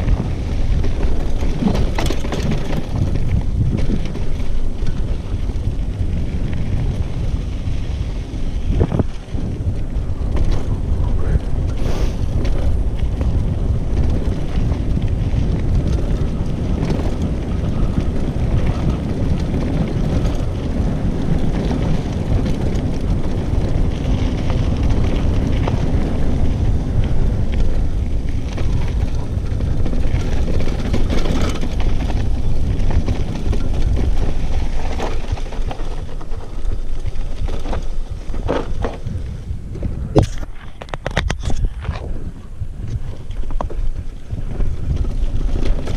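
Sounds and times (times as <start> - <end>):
bike rattling: 0.0 - 45.9
bike tyres on dirt: 0.0 - 45.9
wind buffeting microphone: 0.0 - 45.9.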